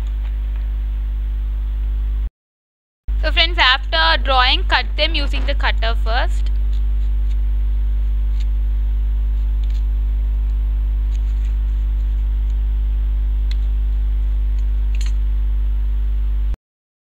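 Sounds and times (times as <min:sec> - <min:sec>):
electrical mains hum: 0:00.0 - 0:02.3, 0:03.1 - 0:16.6.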